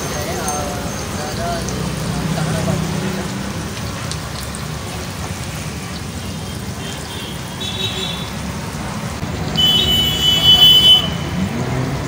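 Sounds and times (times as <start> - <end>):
food deep-frying in sizzling oil: 0.0 - 12.0.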